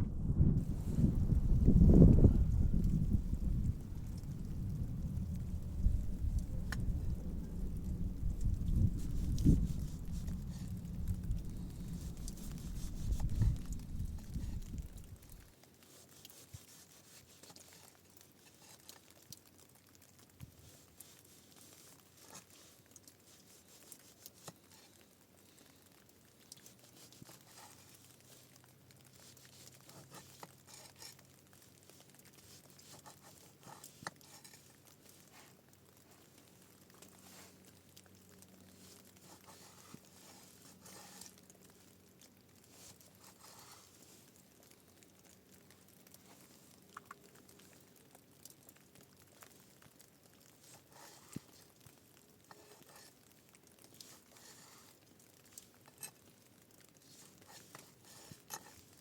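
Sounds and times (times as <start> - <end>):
faint crackles and ticks: 0.0 - 59.0.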